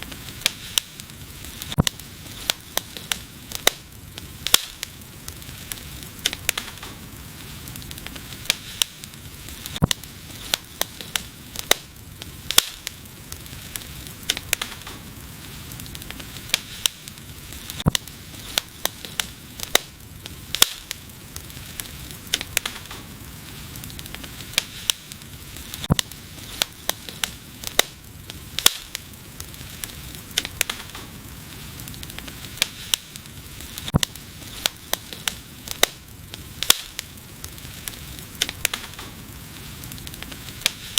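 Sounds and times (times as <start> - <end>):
fire hissing: 0.0 - 40.9
wood fire crackling and popping: 0.0 - 40.9.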